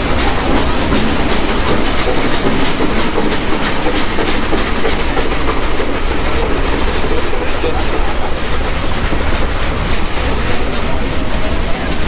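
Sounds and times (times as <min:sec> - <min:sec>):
train running: 0:00.0 - 0:12.0
wheels clattering on rail joints: 0:00.0 - 0:12.0.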